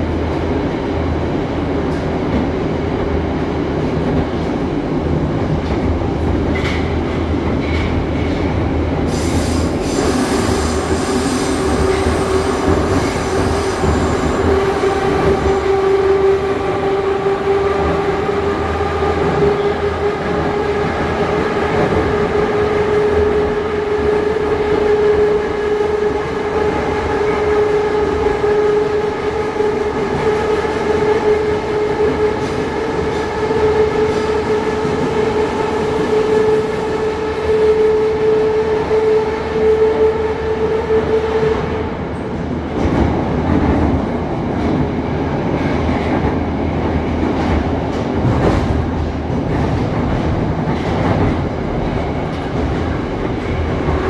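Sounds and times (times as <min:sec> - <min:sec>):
train wheel and running noise: 0:00.0 - 0:54.0.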